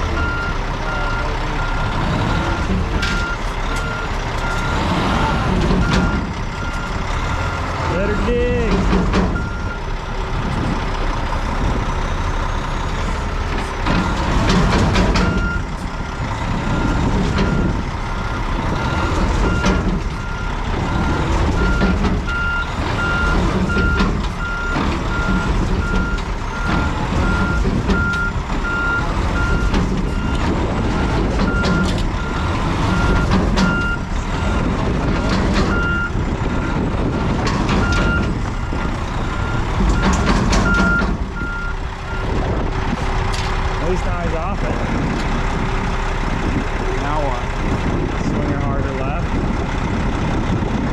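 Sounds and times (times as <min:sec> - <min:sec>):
diesel truck engine under load: 0:00.0 - 0:50.9.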